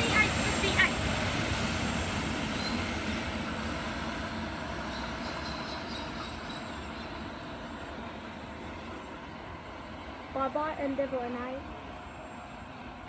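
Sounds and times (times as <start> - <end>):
diesel railcar running away: 0.0 - 13.0.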